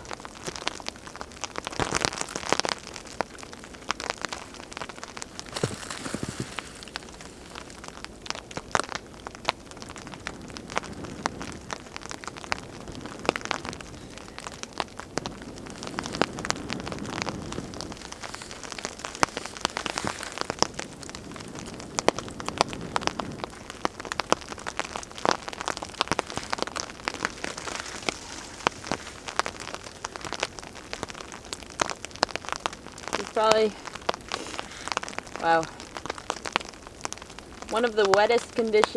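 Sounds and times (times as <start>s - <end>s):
fire popping and crackling: 0.0s - 38.9s
rain pattering: 0.0s - 38.9s.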